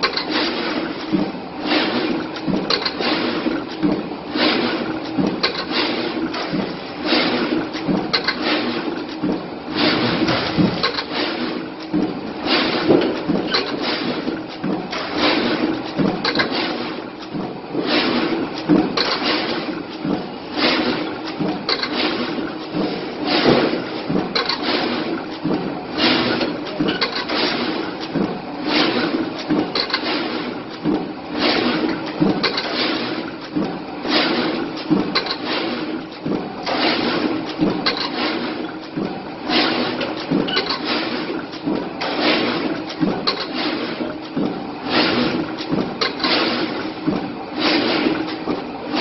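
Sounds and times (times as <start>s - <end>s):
box-making machine clattering: 0.0s - 49.0s.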